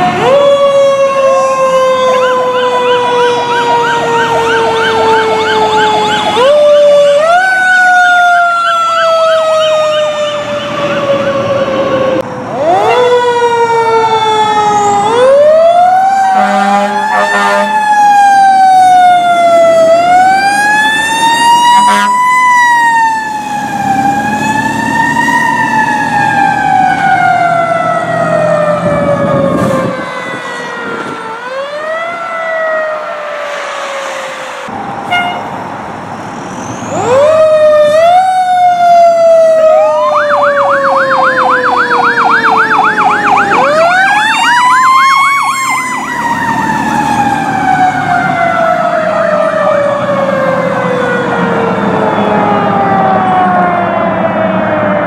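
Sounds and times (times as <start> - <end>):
fire engine sirens wailing: 0.0 - 55.0
truck engines rumbling: 0.0 - 55.0.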